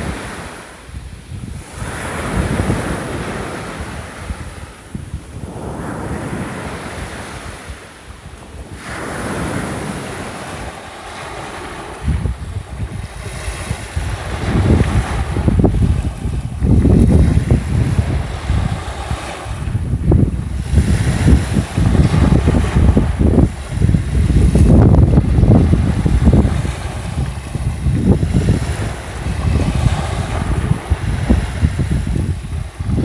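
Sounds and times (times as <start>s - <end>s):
small waves breaking on beach: 0.0s - 33.0s
wind buffeting microphone: 0.0s - 33.0s.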